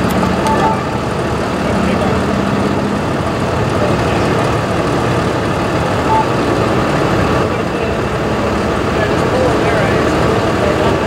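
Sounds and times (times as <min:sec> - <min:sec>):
truck engines idling: 0:00.0 - 0:11.0.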